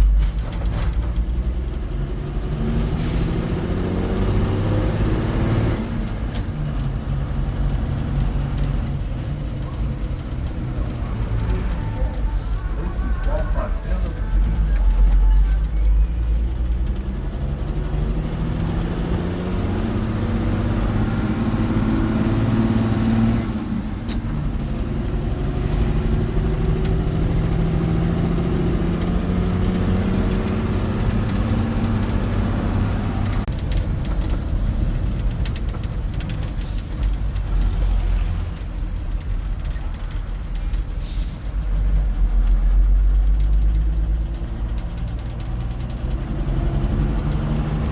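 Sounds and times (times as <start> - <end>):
fire truck engine accelerating: 0.0 - 47.9.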